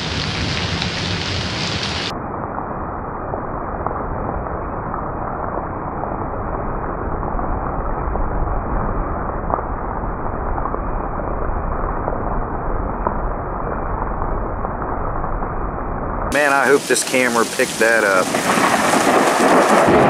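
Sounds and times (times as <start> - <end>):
low thunder rumble: 0.0 - 20.0
rain hiss: 0.0 - 20.0
raindrop ticks: 0.0 - 20.0.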